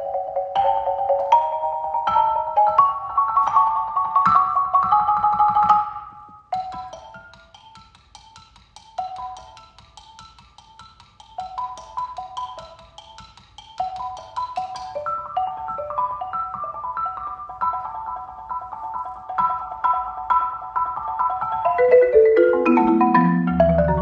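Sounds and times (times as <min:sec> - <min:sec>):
marimba solo: 0:00.0 - 0:24.0.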